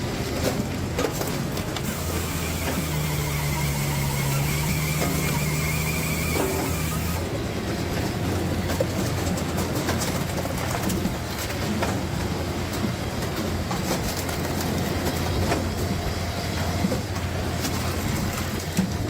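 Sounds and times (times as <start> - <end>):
log splitter humming: 0.0 - 19.0.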